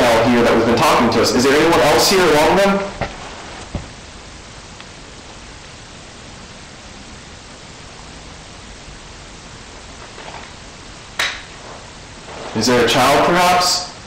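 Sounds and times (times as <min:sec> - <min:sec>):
microphone hiss: 0:00.0 - 0:14.0.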